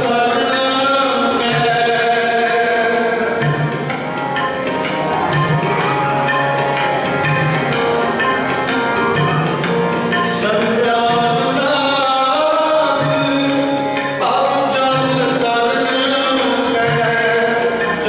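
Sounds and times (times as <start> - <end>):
long held instrumental notes: 0.0 - 18.0
tabla-like percussion: 0.0 - 18.0.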